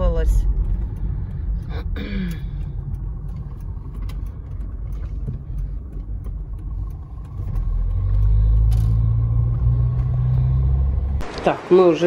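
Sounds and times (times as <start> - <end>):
car engine and tyres rumbling: 0.0 - 11.3.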